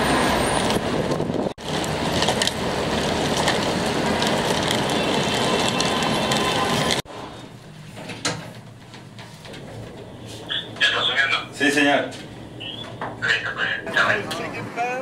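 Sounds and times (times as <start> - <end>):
rumbling street noise: 0.0 - 15.0.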